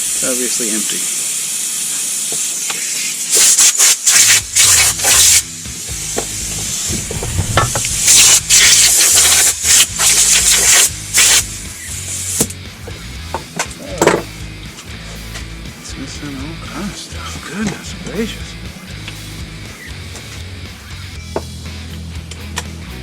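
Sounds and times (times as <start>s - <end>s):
bursts of hissing air: 0.0s - 21.3s
steady hiss: 0.0s - 21.3s.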